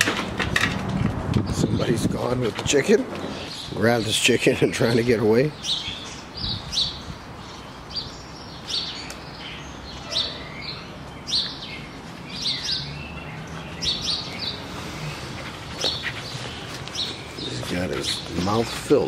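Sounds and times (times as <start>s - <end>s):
small birds chirping: 1.3s - 19.0s.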